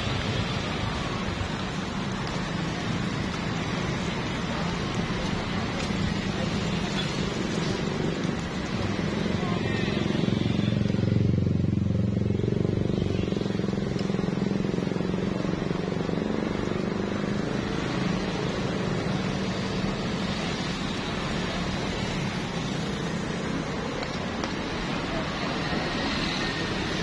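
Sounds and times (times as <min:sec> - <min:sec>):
street traffic hum: 0:00.0 - 0:27.0.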